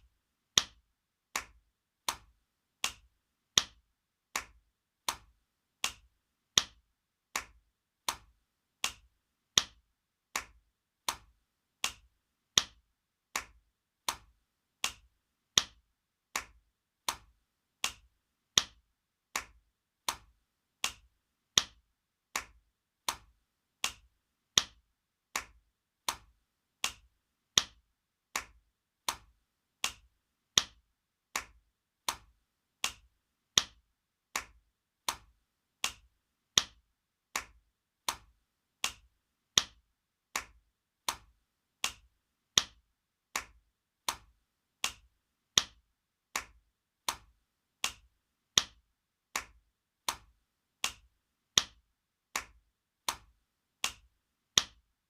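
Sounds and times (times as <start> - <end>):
hand slaps: 0.6 - 42.8, 43.4 - 45.8, 46.4 - 48.8, 49.4 - 51.8, 52.4 - 54.8.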